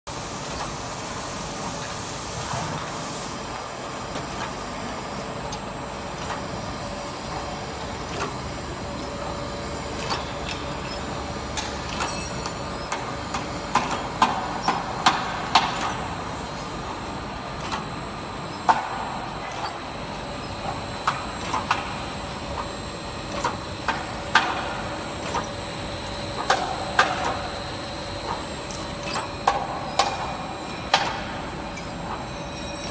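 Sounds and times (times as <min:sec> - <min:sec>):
machine humming with high whine: 0:00.1 - 0:32.9
machine clicks and clacks: 0:04.0 - 0:32.9.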